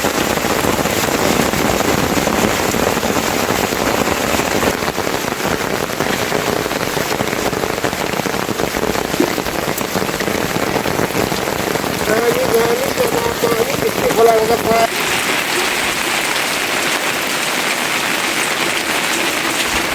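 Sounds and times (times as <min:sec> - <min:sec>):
rain pattering on surfaces: 0:00.0 - 0:19.9.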